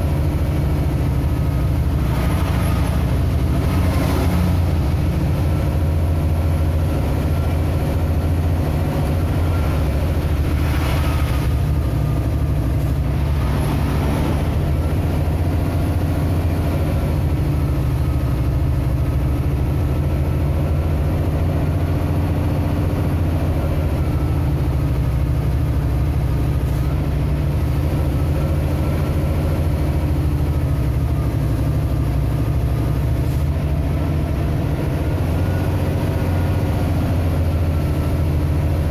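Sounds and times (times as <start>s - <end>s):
car engine drone and road noise: 0.0s - 38.9s.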